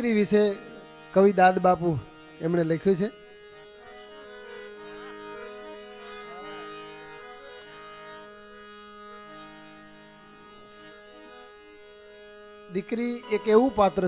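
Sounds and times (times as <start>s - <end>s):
harmonium drone and melody: 0.0s - 14.0s.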